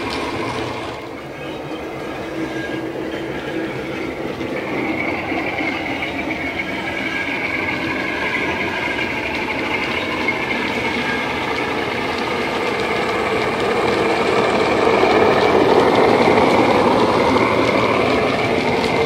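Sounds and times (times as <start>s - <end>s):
diesel engine running: 0.0s - 19.0s
model train wheels rumbling on track: 0.0s - 19.0s.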